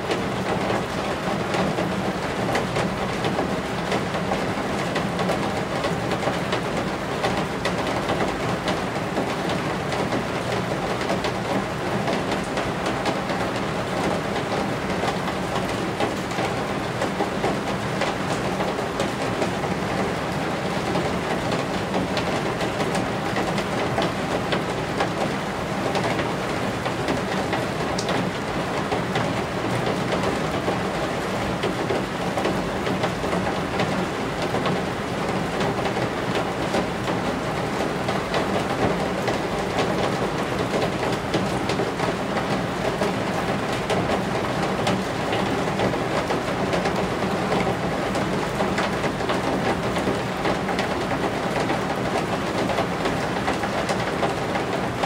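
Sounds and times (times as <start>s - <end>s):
rain on roof eaves: 0.0s - 55.0s.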